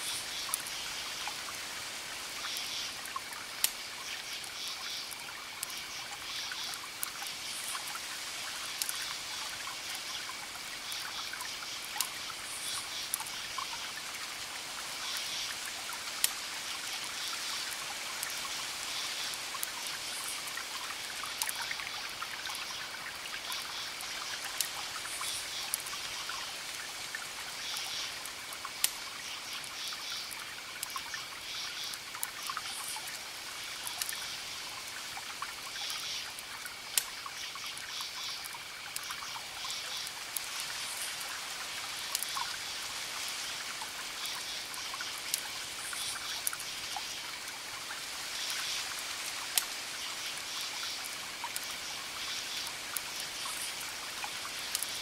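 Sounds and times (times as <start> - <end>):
fire crackling: 0.1 - 55.0.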